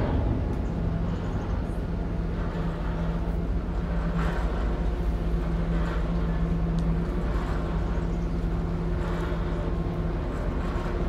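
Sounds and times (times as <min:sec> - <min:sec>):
ferry engines droning: 0:00.0 - 0:11.0.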